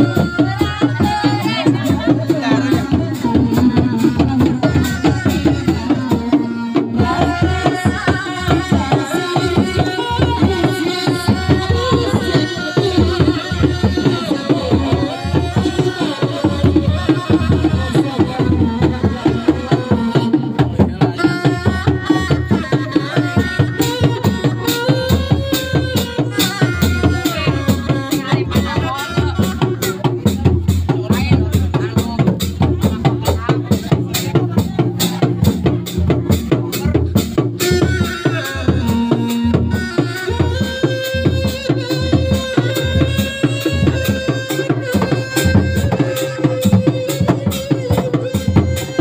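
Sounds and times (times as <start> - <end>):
hand drums and barrel drums: 0.0 - 49.0.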